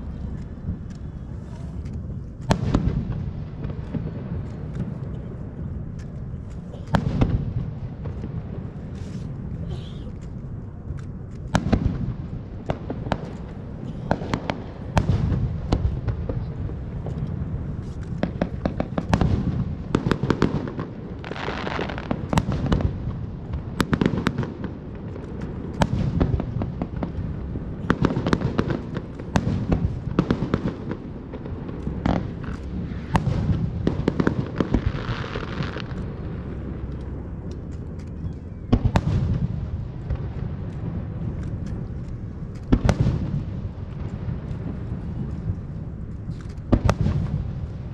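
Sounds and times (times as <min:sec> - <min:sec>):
fireworks bangs: 0:00.0 - 0:10.0, 0:11.5 - 0:37.9, 0:38.6 - 0:47.9
fireworks crackling: 0:00.0 - 0:47.9.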